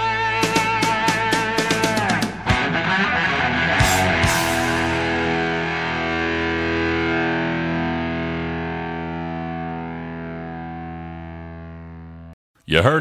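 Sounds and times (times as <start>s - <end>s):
distorted electric guitar chord: 0.0s - 12.3s.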